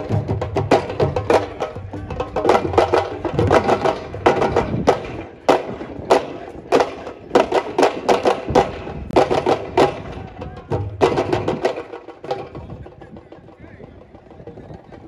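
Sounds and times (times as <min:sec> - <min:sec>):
drums played in brisk rhythm: 0:00.0 - 0:15.0.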